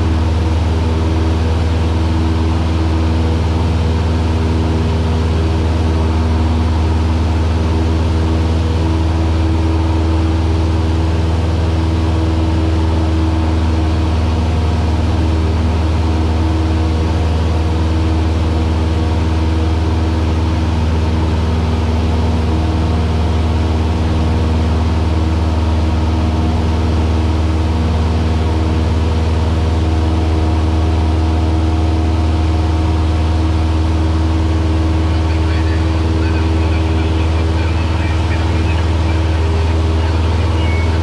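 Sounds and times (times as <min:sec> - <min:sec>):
propeller plane engine drone: 0:00.0 - 0:41.0.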